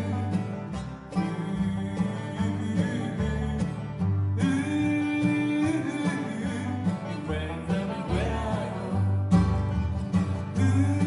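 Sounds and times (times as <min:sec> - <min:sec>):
acoustic guitar: 0:00.0 - 0:11.0
banjo: 0:00.0 - 0:11.0
mandolin: 0:00.0 - 0:11.0
upright bass: 0:00.0 - 0:11.0.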